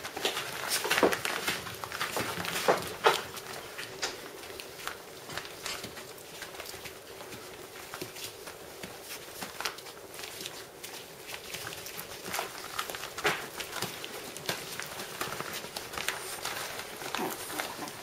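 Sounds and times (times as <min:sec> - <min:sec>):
puppies pattering and scuffling: 0:00.0 - 0:18.0.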